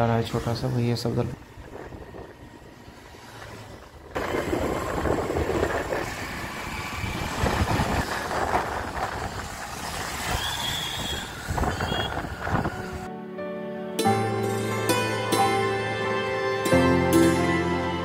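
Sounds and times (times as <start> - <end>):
road and wind noise: 0.0 - 18.0
surrounding traffic: 0.0 - 18.0.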